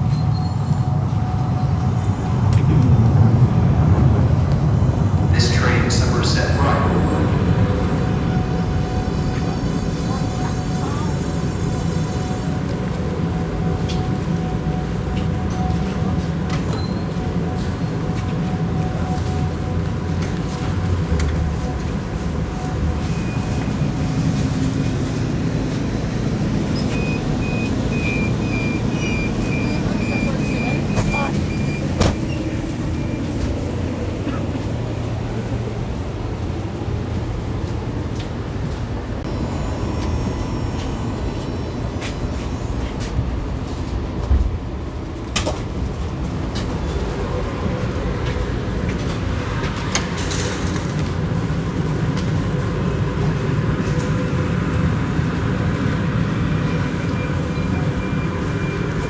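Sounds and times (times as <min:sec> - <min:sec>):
light rail car rumble: 0:00.0 - 0:59.0.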